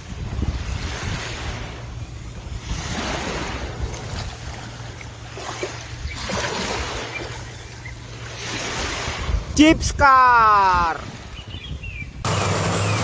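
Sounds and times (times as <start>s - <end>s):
wind on microphone: 0.0s - 12.3s.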